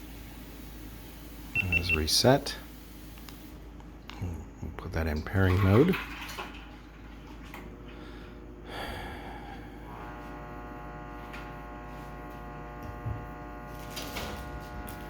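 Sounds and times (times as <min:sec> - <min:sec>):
steady buzzing hum: 0:00.0 - 0:05.5, 0:06.1 - 0:15.0.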